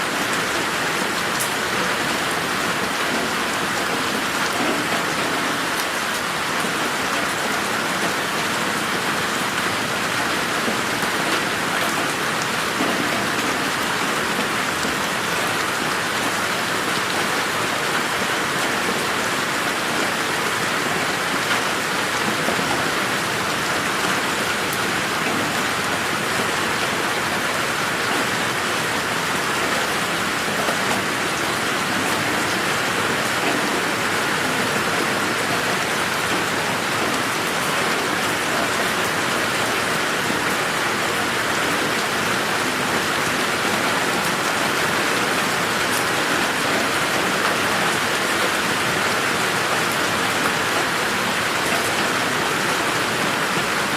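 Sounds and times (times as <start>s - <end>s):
raindrops pattering on surfaces: 0.1s - 53.9s.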